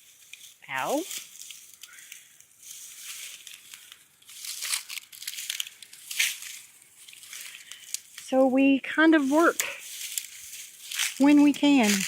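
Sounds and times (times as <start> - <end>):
leaves and twigs crunching underfoot: 0.0 - 12.0.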